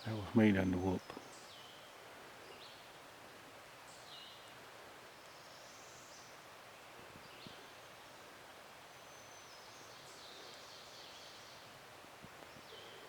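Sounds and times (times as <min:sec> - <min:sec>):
woodland background hiss: 0:00.0 - 0:13.0.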